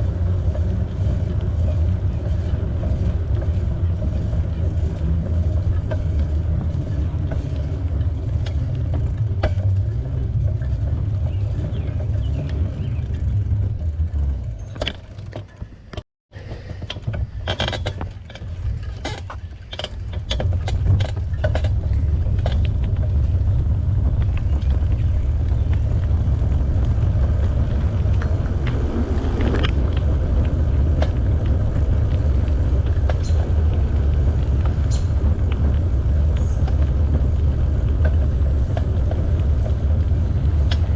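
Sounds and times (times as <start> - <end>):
bike tyre noise on trail: 0.0 - 40.9
wind rumbling on microphone: 0.0 - 40.9.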